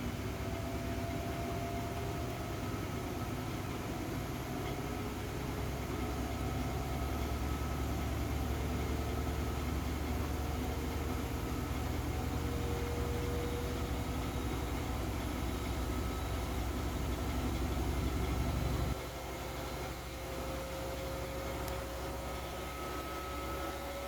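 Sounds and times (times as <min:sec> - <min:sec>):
faint motor whine: 0:00.0 - 0:24.0
washing machine motor hum: 0:00.0 - 0:24.0.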